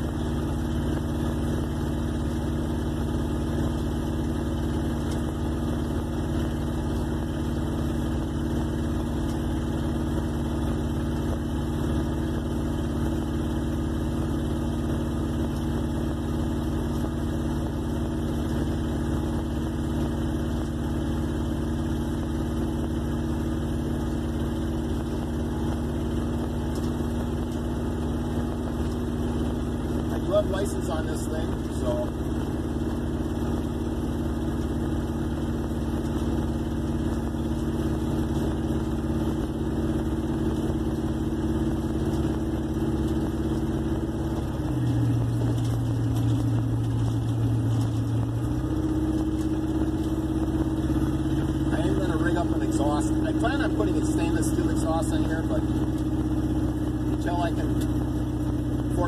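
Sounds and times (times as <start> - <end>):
car engine cruising from inside: 0.0 - 59.0.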